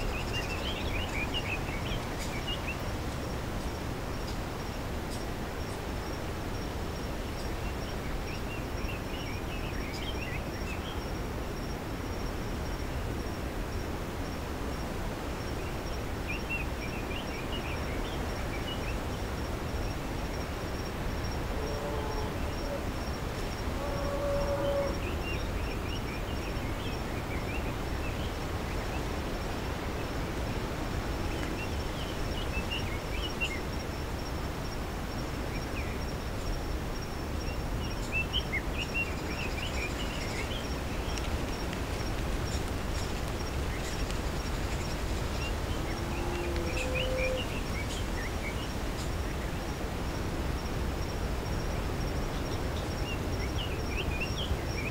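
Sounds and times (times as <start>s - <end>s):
high insect trill: 0.0s - 54.9s
low background noise: 0.0s - 54.9s.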